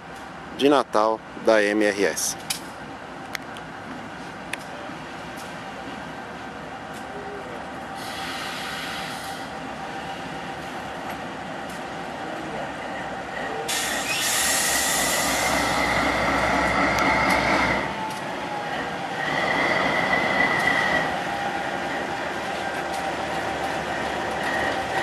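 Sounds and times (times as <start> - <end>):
diesel locomotive engine running: 0.0 - 25.0
train wheels rolling on rails: 2.2 - 25.0.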